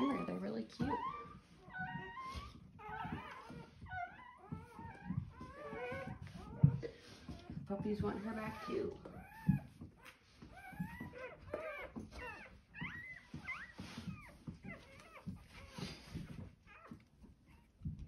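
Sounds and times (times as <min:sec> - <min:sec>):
puppies squeaking and crying: 0:00.0 - 0:18.0.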